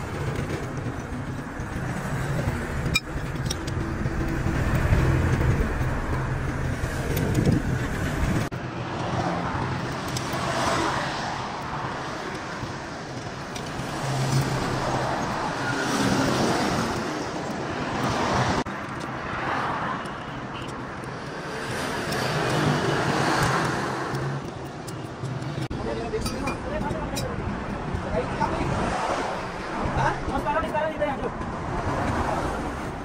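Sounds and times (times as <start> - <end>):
road traffic noise: 0.0 - 33.0
vehicle engine: 0.0 - 33.0.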